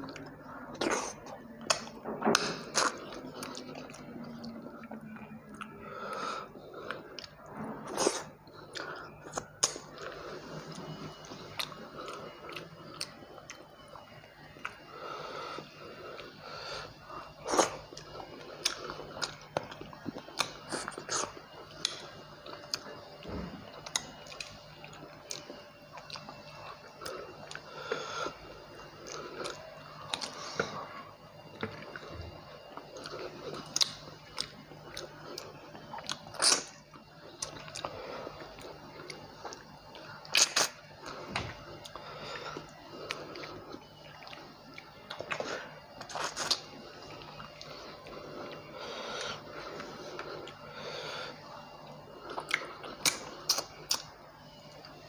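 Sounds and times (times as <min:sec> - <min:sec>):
person chewing and smacking: 0:00.0 - 0:14.8, 0:17.1 - 0:50.7, 0:51.8 - 0:54.2.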